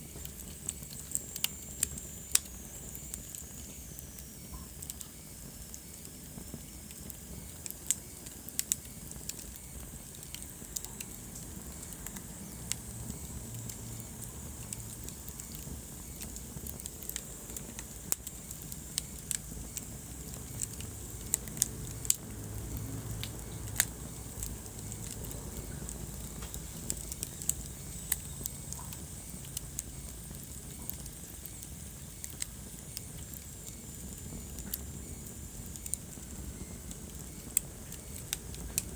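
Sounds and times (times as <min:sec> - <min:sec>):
fire crackling and popping: 0:00.0 - 0:38.9
low rumble of flames: 0:00.0 - 0:38.9.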